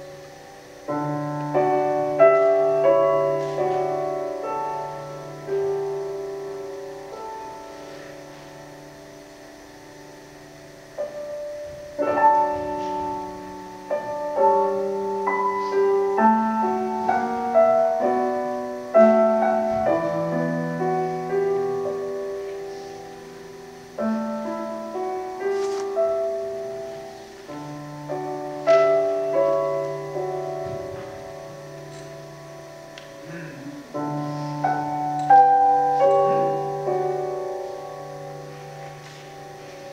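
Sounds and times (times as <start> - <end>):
slow gentle solo piano: 0.0 - 39.9.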